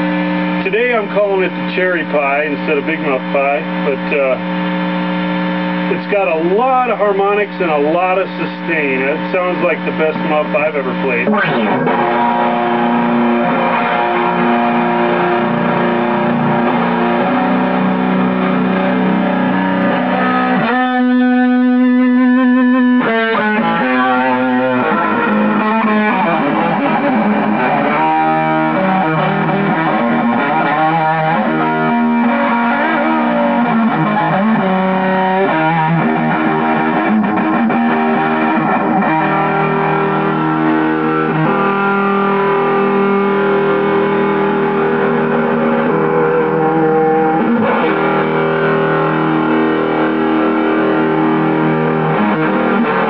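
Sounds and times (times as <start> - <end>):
fuzz electric guitar: 0.0 - 53.0.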